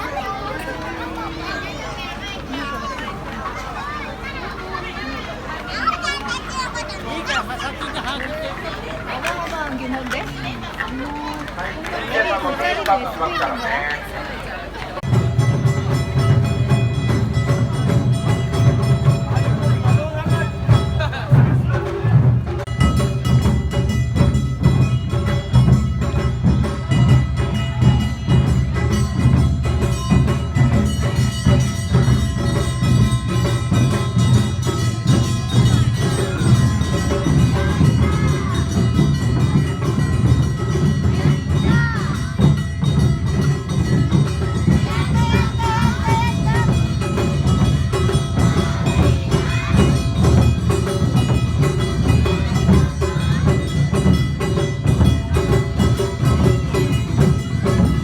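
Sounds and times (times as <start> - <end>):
street drum and percussion ensemble: 0.0 - 58.0.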